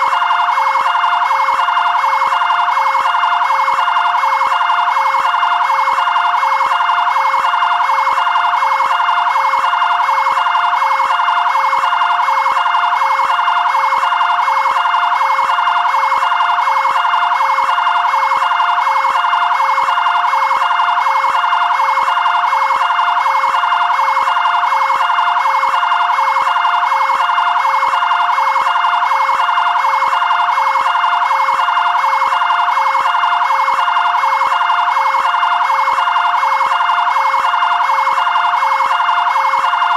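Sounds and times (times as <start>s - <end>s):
two-tone siren: 0.0s - 39.9s.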